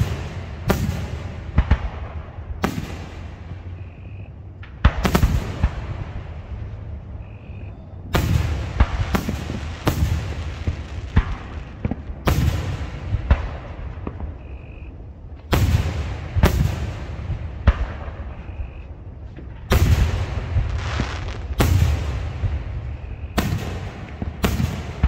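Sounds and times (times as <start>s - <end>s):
fireworks booming: 0.0s - 25.0s.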